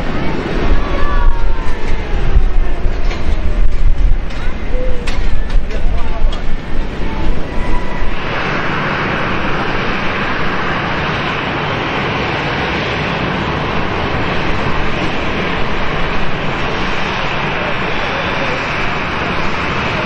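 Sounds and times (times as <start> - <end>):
jet engines taxiing: 0.0 - 20.0
loud low rumble: 0.0 - 20.0.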